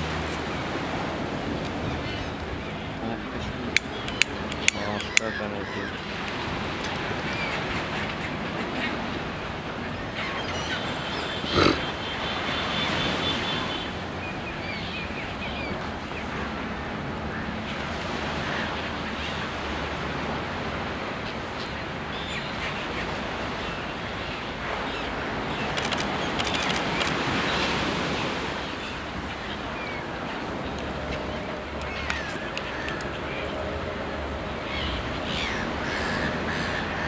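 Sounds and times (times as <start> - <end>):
surf washing on beach: 0.0 - 37.0.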